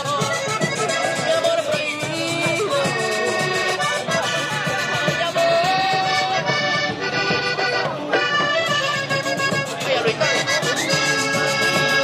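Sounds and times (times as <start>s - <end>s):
accordion-led folk band music: 0.0s - 12.0s.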